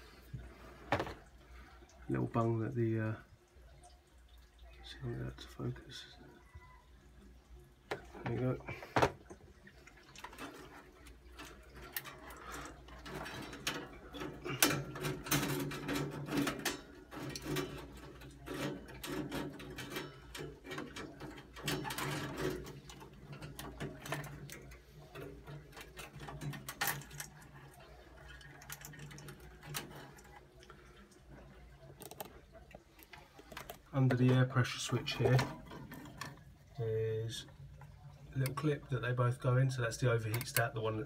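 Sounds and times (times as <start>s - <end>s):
clicks and rattles of metal and plastic: 0.3s - 1.7s, 7.8s - 41.0s.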